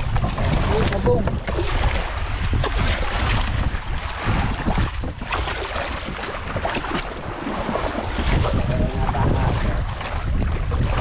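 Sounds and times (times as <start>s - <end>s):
waves splashing against hull: 0.0s - 11.0s
wind buffeting microphone: 0.0s - 11.0s.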